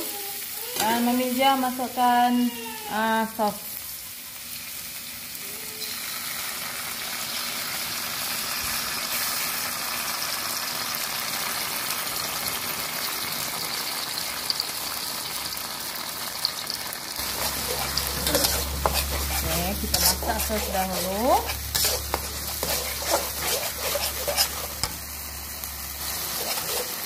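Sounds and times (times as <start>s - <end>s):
garlic sizzling in oil: 0.0s - 27.0s.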